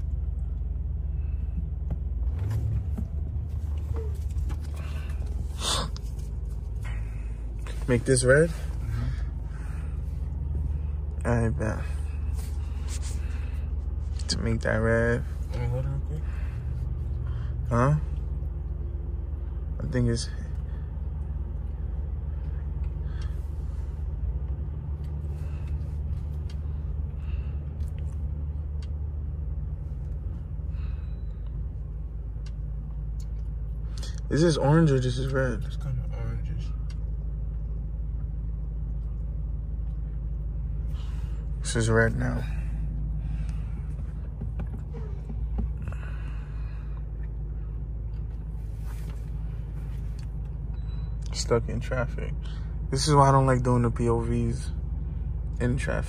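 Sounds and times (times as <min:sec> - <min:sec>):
muffled car cabin rumble: 0:00.0 - 0:56.0.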